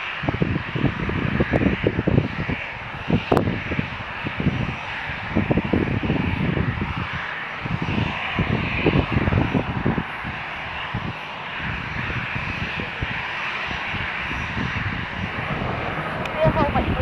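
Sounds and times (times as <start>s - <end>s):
airliner engines roaring: 0.0s - 17.0s
wind buffeting microphone: 0.0s - 17.0s.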